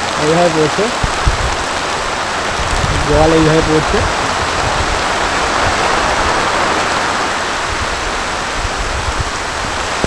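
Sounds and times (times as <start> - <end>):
heavy rain: 0.0 - 10.0
water pouring off roof: 0.0 - 10.0.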